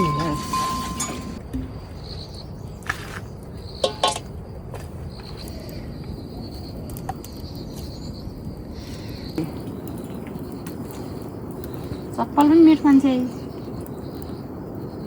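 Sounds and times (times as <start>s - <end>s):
insect droning: 0.0s - 15.0s.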